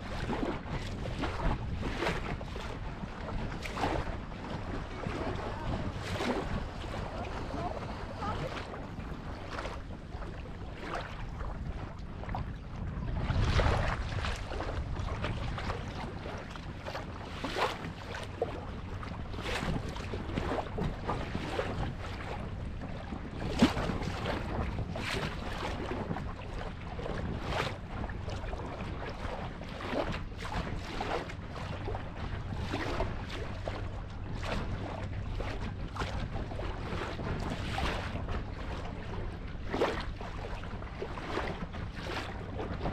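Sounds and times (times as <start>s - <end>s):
boat engine rumble: 0.0s - 42.9s
water slapping against boat hull: 0.0s - 42.9s.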